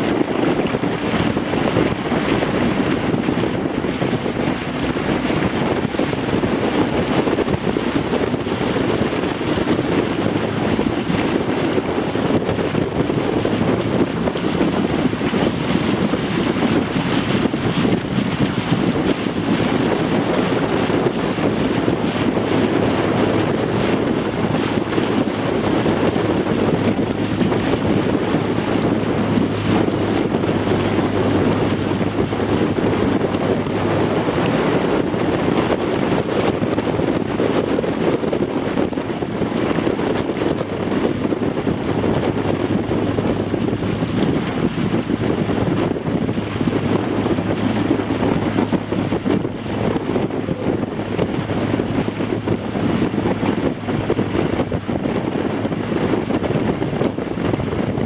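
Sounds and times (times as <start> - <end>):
motorboat engine running: 0.0 - 58.0
wind buffeting microphone: 0.0 - 58.0.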